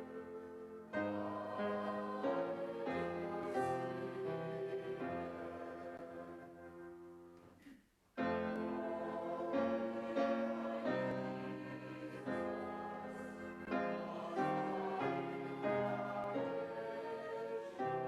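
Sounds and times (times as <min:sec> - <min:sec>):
slow piano chords: 0:00.0 - 0:07.5, 0:08.2 - 0:18.0.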